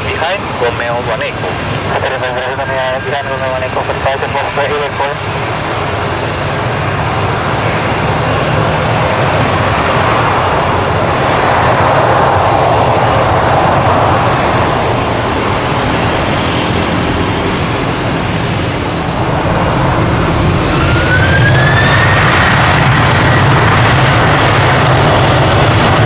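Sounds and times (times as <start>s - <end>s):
jet engines roaring with whine: 0.0s - 26.0s
rising jet whine: 0.0s - 26.0s.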